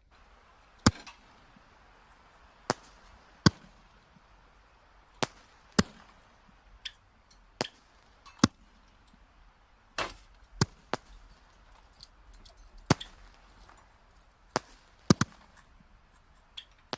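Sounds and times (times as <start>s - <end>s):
fire popping: 0.0s - 16.9s
firewood crackling: 0.0s - 16.9s.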